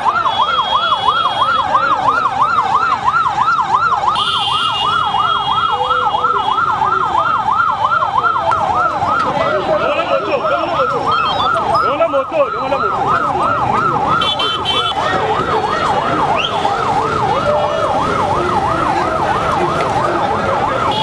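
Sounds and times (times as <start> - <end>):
hubbub of a large crowd: 0.0 - 21.0
vehicle siren yelping: 0.0 - 21.0.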